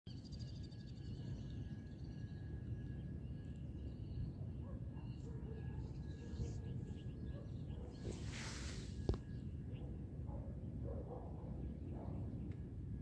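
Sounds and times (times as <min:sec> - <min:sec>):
birds chirping: 0:00.1 - 0:12.5
wind rumble on microphone: 0:00.9 - 0:13.0.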